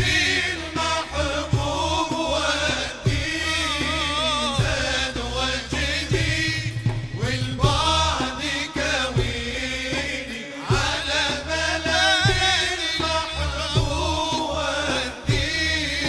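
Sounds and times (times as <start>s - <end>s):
male ensemble singing devotional song: 0.0s - 16.0s.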